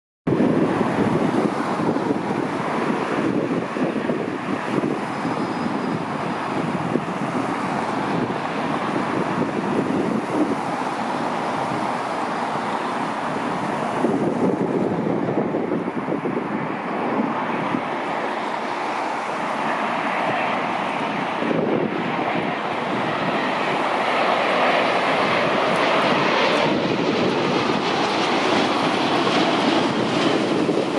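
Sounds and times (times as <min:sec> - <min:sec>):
outdoor rushing rumble: 0:00.3 - 0:30.9
wind buffeting microphone: 0:00.3 - 0:30.9.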